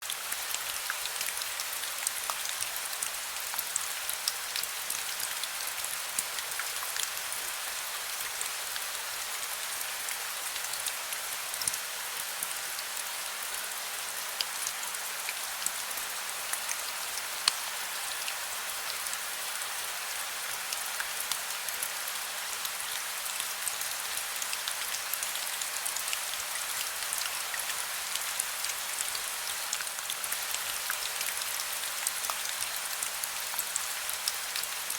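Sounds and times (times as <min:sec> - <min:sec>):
heavy rain on hard surface: 0:00.0 - 0:34.9.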